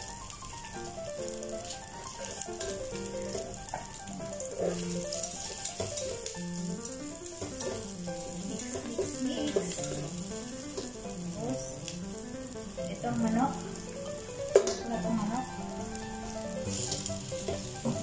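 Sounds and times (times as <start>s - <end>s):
background music: 0.0s - 18.0s
onions sizzling in a pot: 0.0s - 18.0s
spatula stirring: 0.1s - 18.0s.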